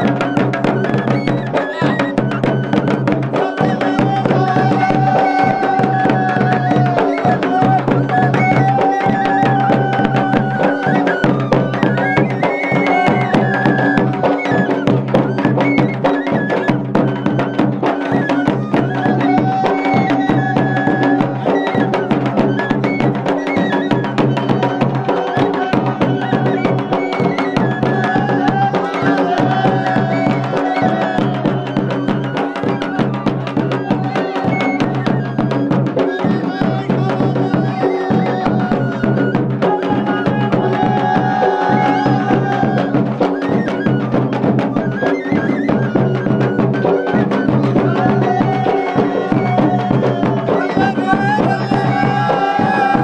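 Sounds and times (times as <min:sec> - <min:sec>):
barrel drum beaten in steady rhythm: 0:00.0 - 0:53.0.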